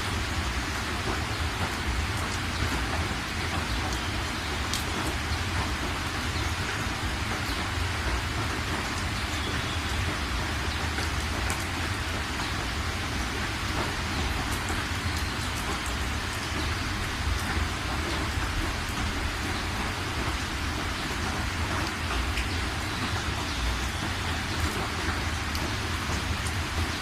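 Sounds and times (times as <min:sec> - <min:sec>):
raindrops ticking: 0:00.0 - 0:27.0
steady rain hissing: 0:00.0 - 0:27.0.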